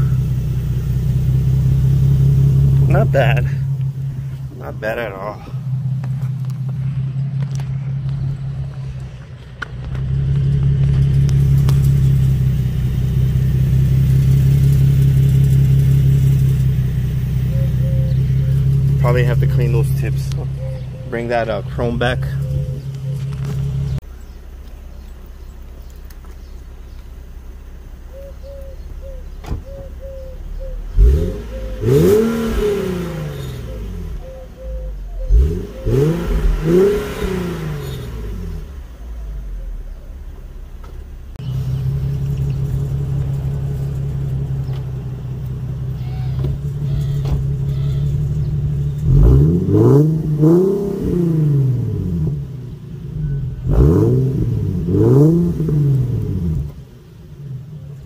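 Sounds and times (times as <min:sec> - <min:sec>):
car exhaust idling and revving: 0:00.0 - 0:58.0.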